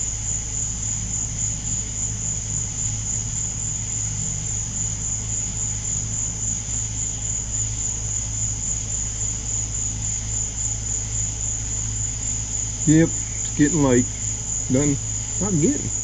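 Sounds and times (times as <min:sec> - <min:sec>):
low steady hum: 0:00.0 - 0:16.0
night insects trilling: 0:00.0 - 0:16.0.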